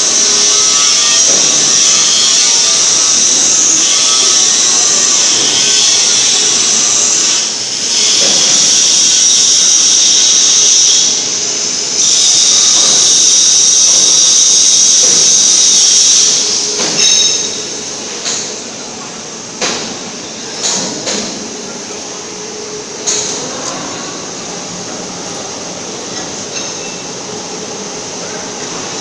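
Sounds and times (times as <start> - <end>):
machine air hiss: 0.0 - 24.5.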